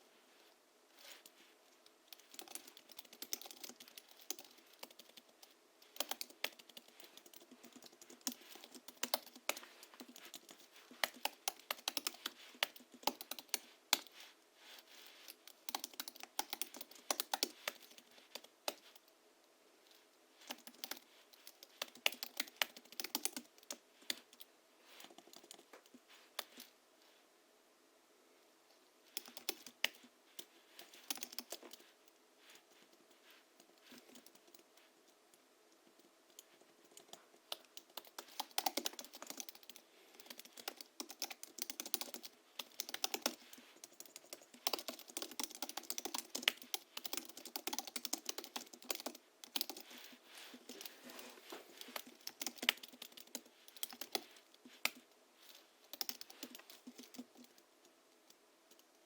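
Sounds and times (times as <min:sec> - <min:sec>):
keyboard typing: 0:02.1 - 0:14.2, 0:14.8 - 0:19.1, 0:20.4 - 0:26.7, 0:29.1 - 0:31.9, 0:35.8 - 0:51.0, 0:51.8 - 0:59.0.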